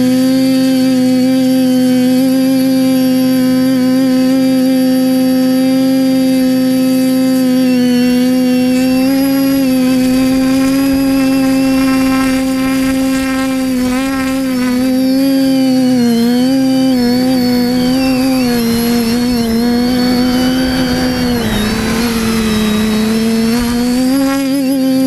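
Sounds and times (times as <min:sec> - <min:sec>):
quadcopter motors humming: 0:00.0 - 0:25.0.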